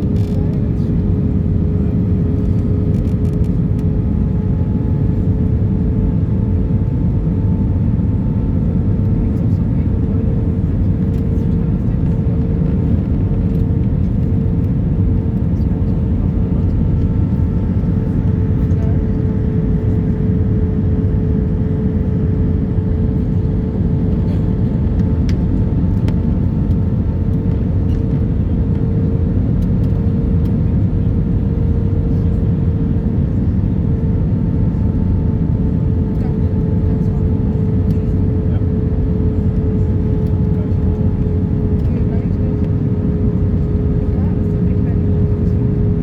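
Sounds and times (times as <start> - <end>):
airplane cabin engine drone: 0.0 - 46.0.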